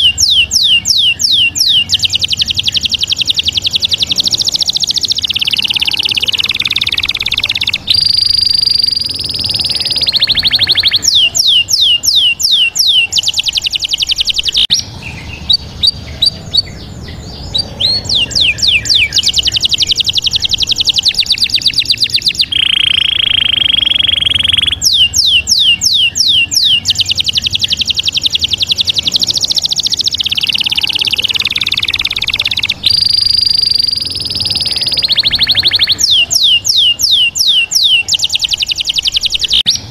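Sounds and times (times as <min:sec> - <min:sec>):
high bird-like chirps and whistles: 0:00.0 - 0:39.9.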